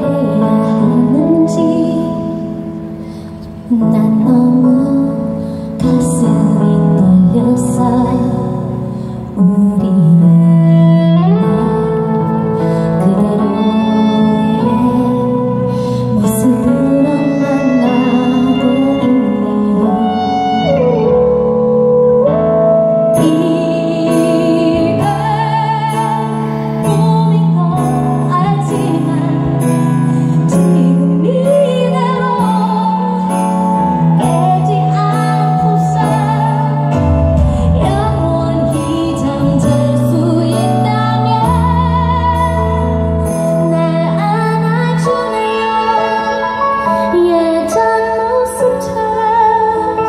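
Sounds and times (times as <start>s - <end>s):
live band playing: 0.0s - 50.0s
woman singing ballad: 0.0s - 50.0s.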